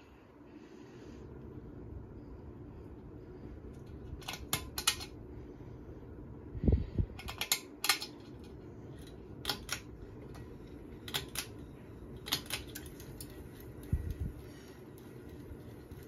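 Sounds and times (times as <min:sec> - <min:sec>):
ceiling fan running: 0:00.0 - 0:16.0.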